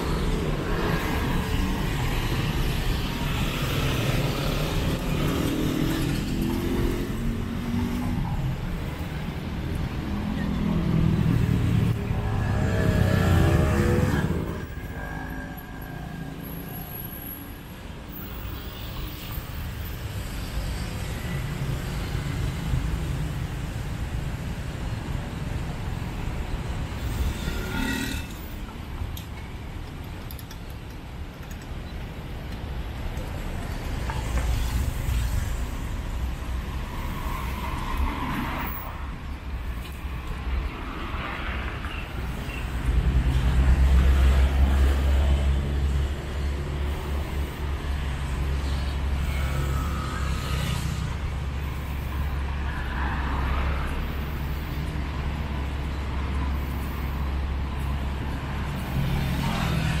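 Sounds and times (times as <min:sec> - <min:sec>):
rumble of passing cars: 0:00.0 - 1:00.0.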